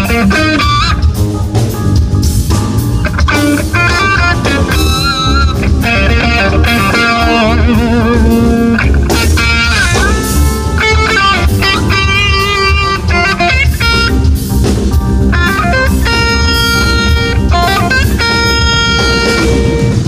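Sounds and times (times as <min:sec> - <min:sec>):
bass guitar: 0:00.0 - 0:20.0
drums: 0:00.0 - 0:20.0
electric guitar lead with bending notes: 0:00.0 - 0:20.0.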